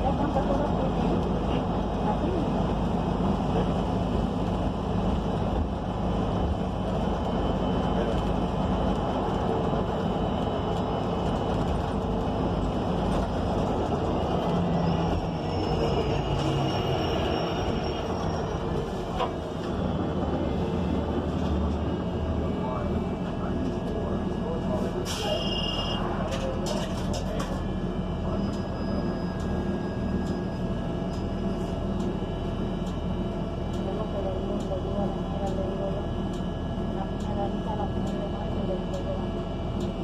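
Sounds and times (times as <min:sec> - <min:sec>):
road and tyre noise: 0:00.0 - 0:36.2
bus engine running: 0:00.0 - 0:40.0.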